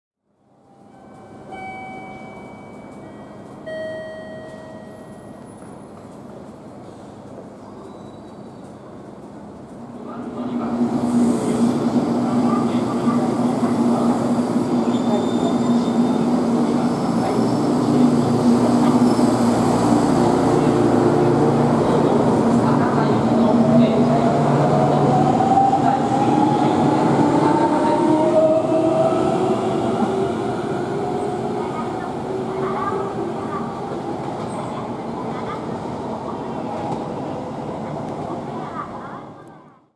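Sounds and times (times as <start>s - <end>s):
train wheels on rails: 1.1s - 39.1s.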